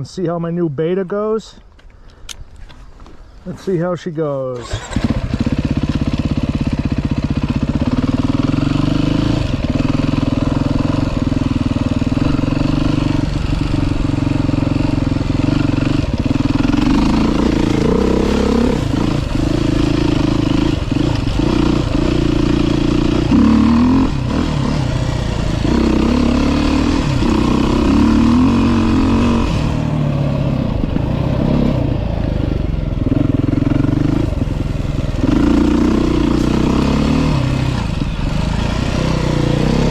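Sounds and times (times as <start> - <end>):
dirt bike engine revving: 4.6 - 39.9.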